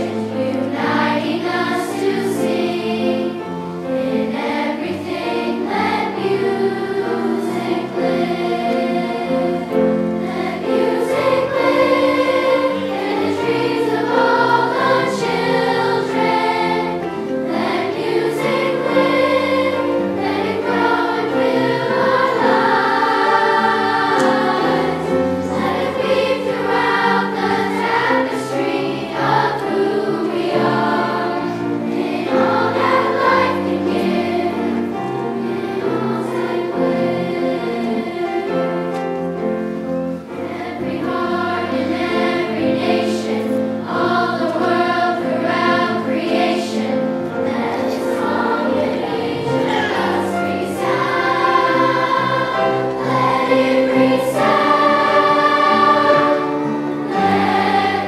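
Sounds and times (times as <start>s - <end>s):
children's choir singing: 0.0s - 58.0s.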